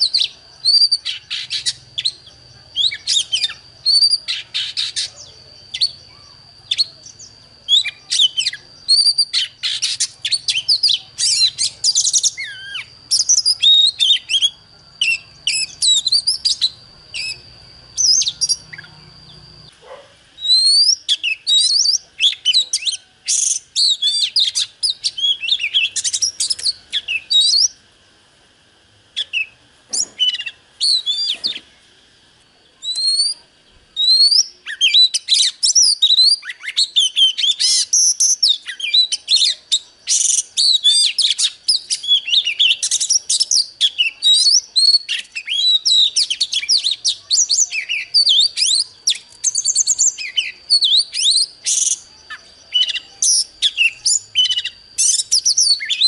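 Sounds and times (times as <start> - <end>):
bird singing whistles and trills: 0.0 - 27.8, 29.1 - 31.9, 32.6 - 56.0.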